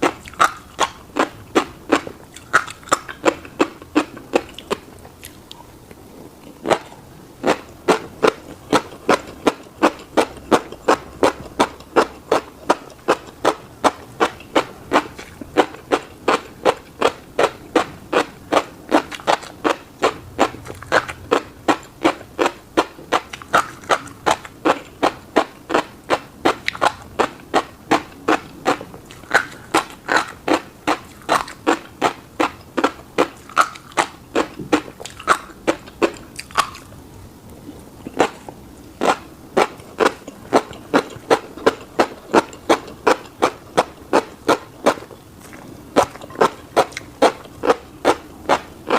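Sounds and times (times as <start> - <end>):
wet chewing: 0.0 - 48.9.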